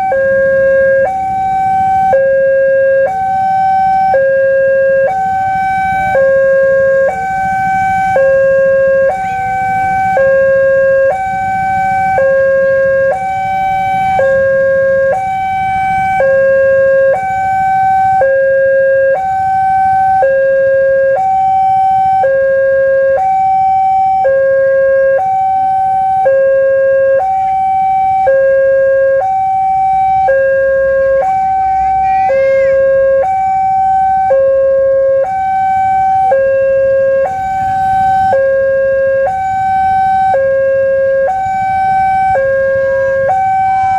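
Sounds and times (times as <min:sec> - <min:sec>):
level crossing two-tone alarm: 0:00.0 - 0:43.9
low traffic rumble: 0:00.0 - 0:43.9.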